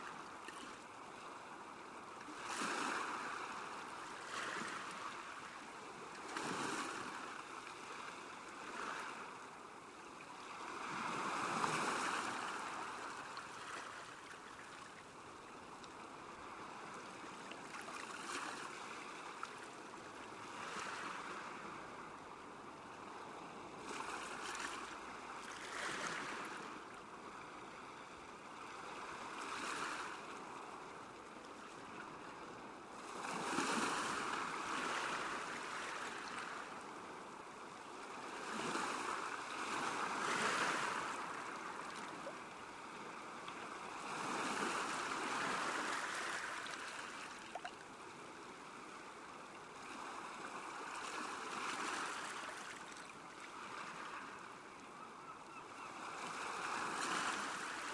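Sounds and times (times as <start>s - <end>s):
small waves washing ashore: 0.0s - 57.9s.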